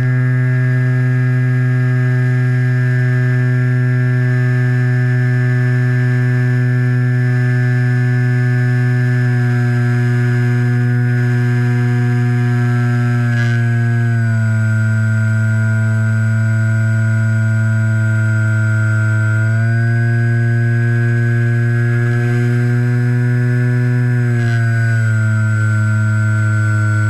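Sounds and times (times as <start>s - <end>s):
model plane motor whine: 0.0s - 27.0s.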